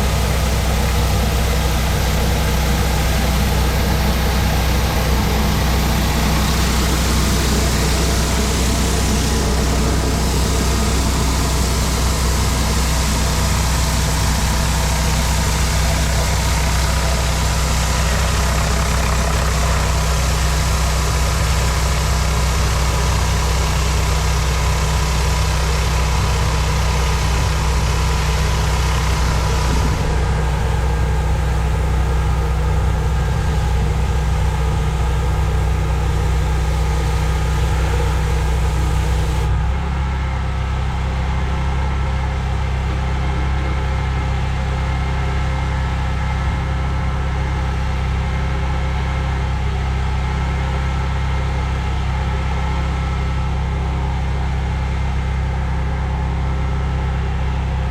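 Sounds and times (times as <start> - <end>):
pressure washer engine running: 0.0 - 57.9.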